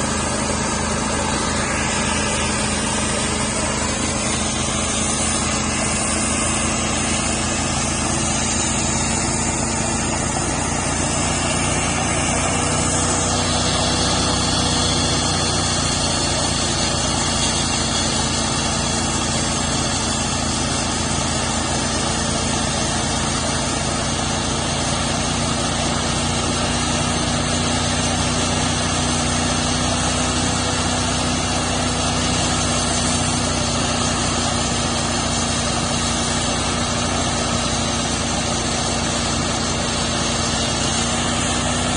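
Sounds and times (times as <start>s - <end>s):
sawmill engine cutting log: 0.0s - 41.9s.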